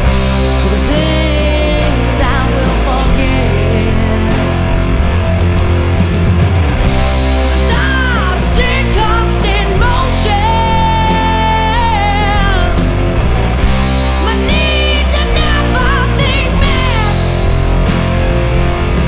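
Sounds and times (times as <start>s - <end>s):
rock song with heavy bass: 0.0s - 19.0s
sliding lead melody: 0.0s - 19.0s.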